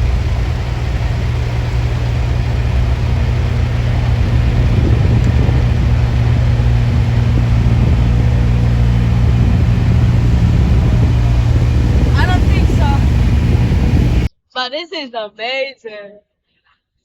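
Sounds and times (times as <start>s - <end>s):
diesel engine idling: 0.0s - 14.3s.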